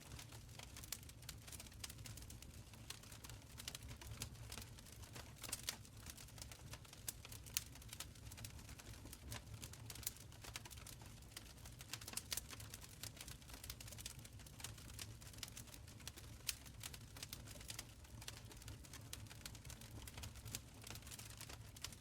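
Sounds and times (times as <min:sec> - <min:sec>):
low rumble of burning: 0:00.0 - 0:22.0
wood fire crackling: 0:00.1 - 0:22.0.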